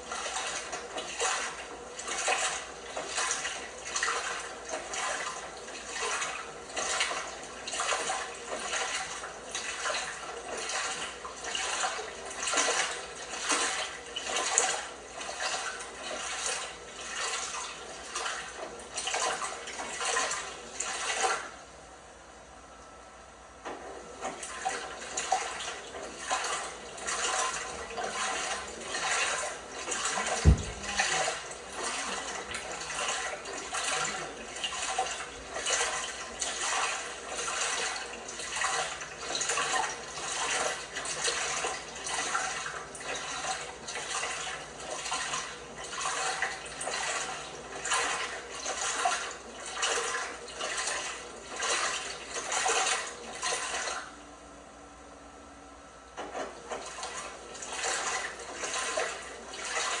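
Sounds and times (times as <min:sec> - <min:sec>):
water sloshing in washing machine: 0:00.0 - 0:21.9, 0:23.6 - 0:54.3, 0:56.1 - 1:00.0.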